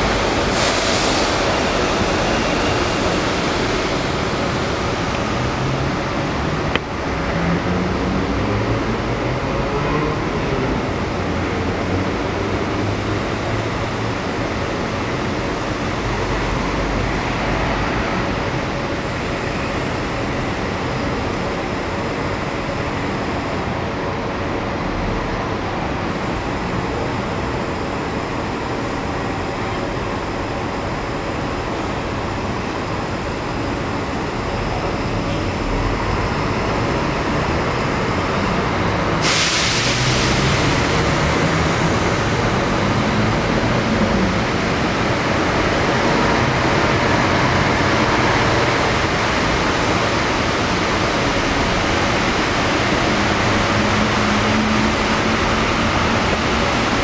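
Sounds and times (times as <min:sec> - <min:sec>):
monorail train running: 0:00.0 - 0:57.0
road traffic: 0:00.0 - 0:57.0.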